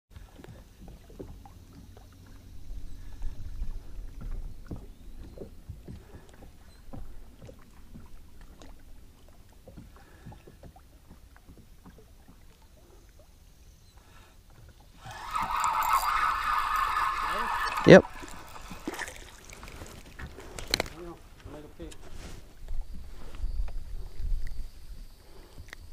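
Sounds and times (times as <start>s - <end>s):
waves lapping against boat hull: 0.1s - 25.9s.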